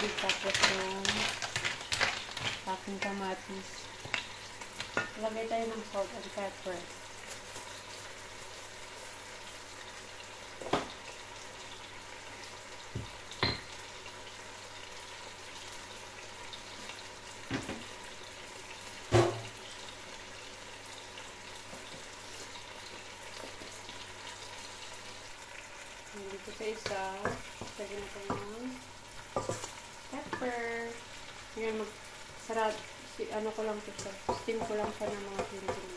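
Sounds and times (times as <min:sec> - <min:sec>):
mussels sizzling in a frying pan: 0:00.0 - 0:35.9.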